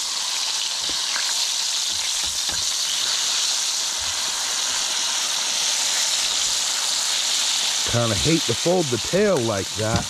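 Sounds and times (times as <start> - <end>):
fish sizzling in a wok: 0.0 - 10.0.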